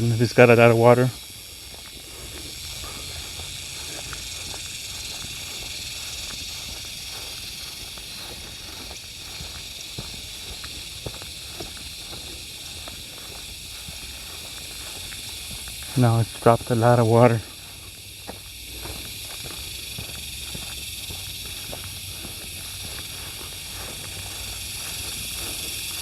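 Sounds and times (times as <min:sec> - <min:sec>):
footsteps crunching on trail: 0:00.0 - 0:26.0
insects buzzing: 0:00.0 - 0:26.0.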